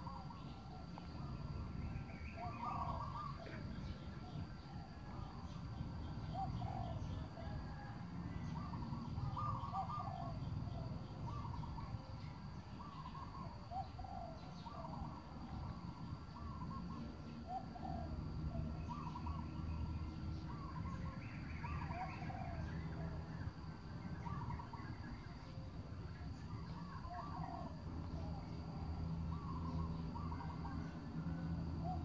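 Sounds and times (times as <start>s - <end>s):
bird calling: 0.0s - 23.2s, 23.8s - 31.1s.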